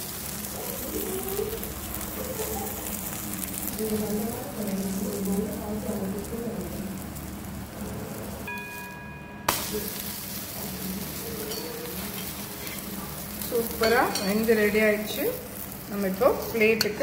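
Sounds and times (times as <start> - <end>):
omelette sizzling on griddle: 0.0 - 17.0.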